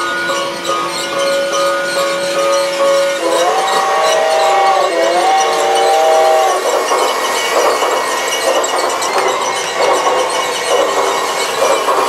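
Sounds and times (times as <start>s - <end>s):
toy train running on track: 0.0s - 12.0s.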